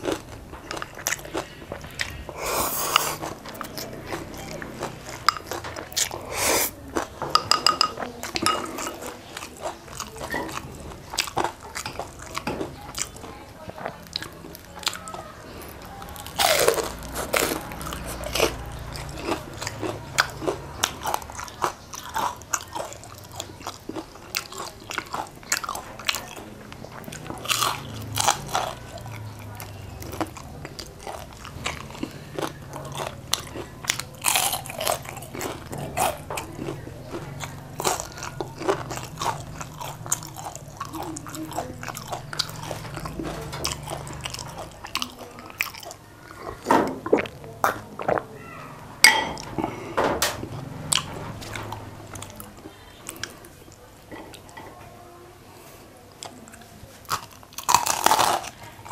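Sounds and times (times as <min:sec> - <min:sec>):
crunchy biting and chewing: 0:00.0 - 0:54.5, 0:56.1 - 0:58.9.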